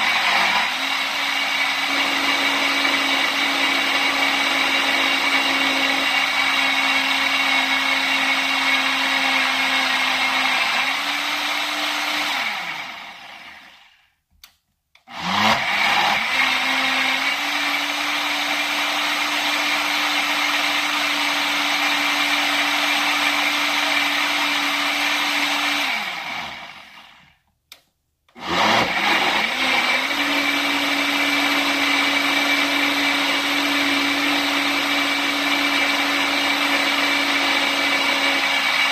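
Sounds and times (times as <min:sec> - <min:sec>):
blender motor running: 0:00.0 - 0:14.1, 0:15.1 - 0:27.4, 0:28.3 - 0:38.9.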